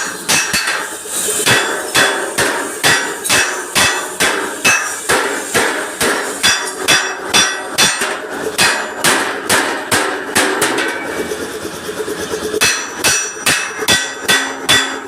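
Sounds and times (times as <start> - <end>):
hammer striking metal: 0.0 - 11.3, 12.6 - 15.0.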